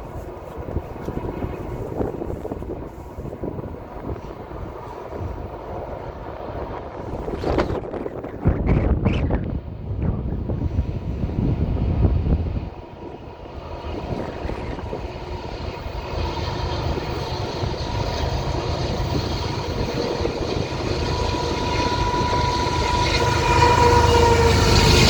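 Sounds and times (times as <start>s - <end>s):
diesel locomotives approaching: 0.0s - 25.0s
wind buffeting microphone: 0.0s - 25.0s.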